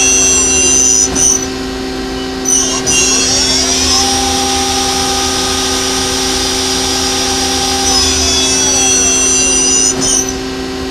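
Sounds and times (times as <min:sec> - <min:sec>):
machine whine: 0:00.0 - 0:10.9.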